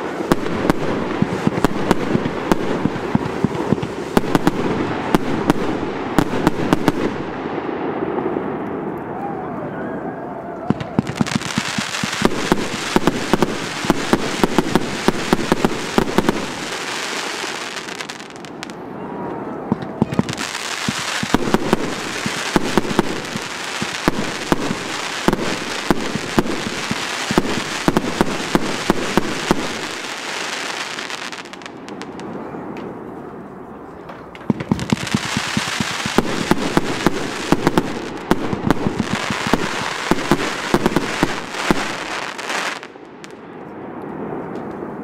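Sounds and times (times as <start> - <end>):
fireworks popping and crackling: 0.0 - 7.4, 10.7 - 18.8, 19.7 - 32.4, 34.1 - 43.4.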